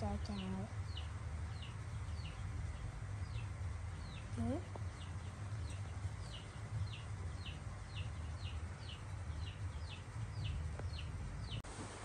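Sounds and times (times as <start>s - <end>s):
high chirping calls: 0.0s - 11.6s
low steady hum: 0.0s - 12.0s.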